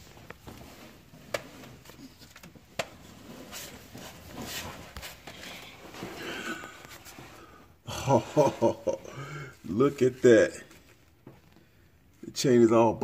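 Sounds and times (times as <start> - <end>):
shuffling and handling noise: 0.0 - 12.2.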